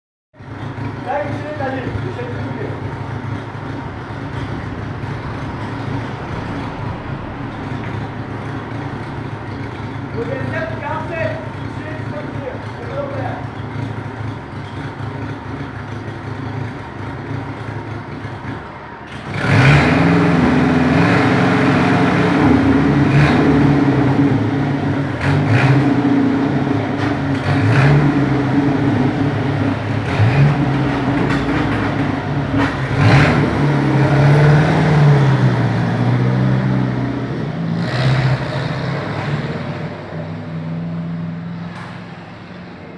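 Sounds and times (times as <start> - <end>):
car engine idling: 0.4 - 37.7.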